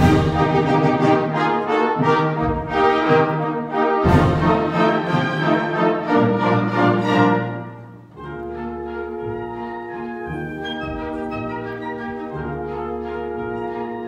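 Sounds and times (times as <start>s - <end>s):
orchestral ballet music: 0.0s - 14.0s.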